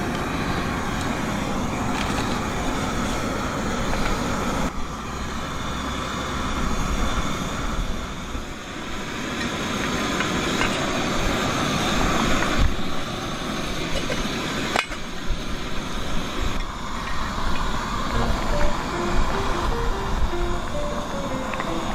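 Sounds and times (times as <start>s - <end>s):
camp stove burner running: 0.0s - 18.2s.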